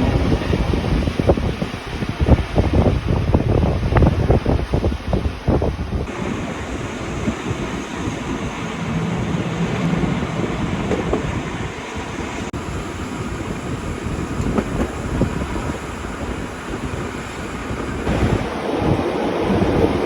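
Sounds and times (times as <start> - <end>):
train rolling rumble: 0.0 - 20.0.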